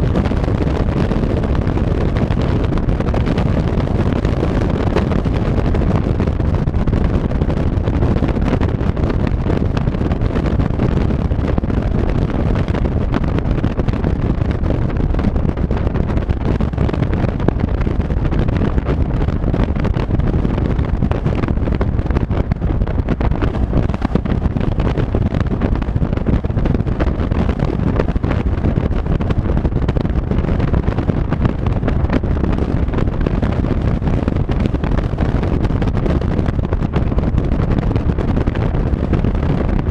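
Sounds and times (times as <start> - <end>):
vehicle driving rumble: 0.0 - 39.9
wind buffeting microphone: 0.0 - 39.9.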